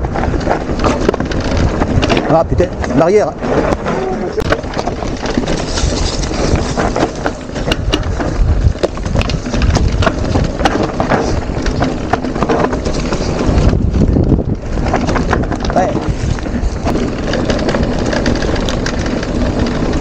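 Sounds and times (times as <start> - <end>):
bike knocking and rattling: 0.0 - 20.0
tyre and wind noise: 0.0 - 20.0.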